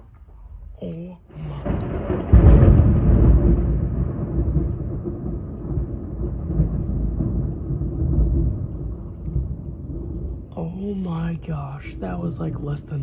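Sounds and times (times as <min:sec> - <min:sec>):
rolling thunder: 0:01.3 - 0:13.0.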